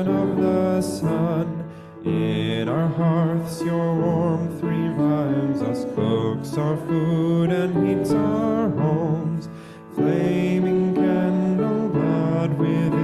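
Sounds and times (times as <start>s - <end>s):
person singing a hymn: 0.0s - 13.0s
piano accompaniment: 0.0s - 13.0s.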